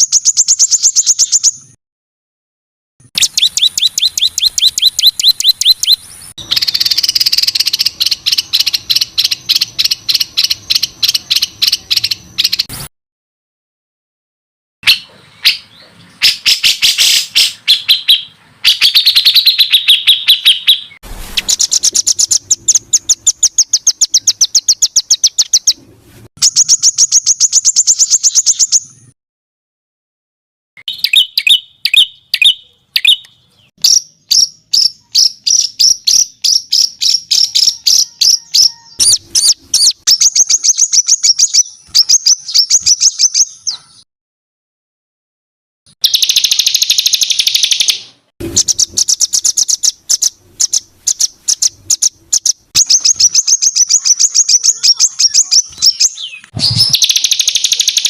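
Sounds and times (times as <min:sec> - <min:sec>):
songbird singing rapid high notes: 0:00.0 - 0:01.8, 0:03.1 - 0:12.8, 0:14.8 - 0:25.8, 0:26.4 - 0:29.2, 0:30.8 - 0:44.0, 0:46.0 - 0:58.0.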